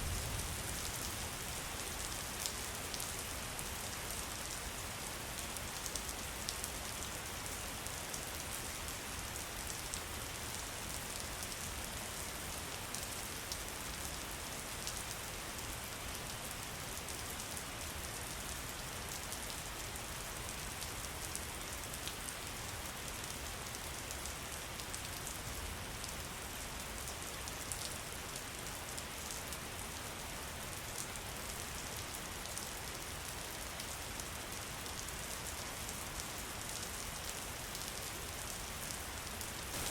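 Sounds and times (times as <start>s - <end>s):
low rumble of falling water: 0.0s - 39.9s
steady rain hiss: 0.0s - 39.9s.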